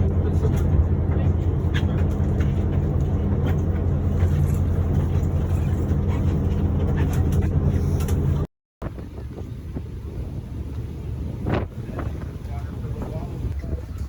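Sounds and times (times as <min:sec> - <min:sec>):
boat engines droning: 0:00.0 - 0:14.0.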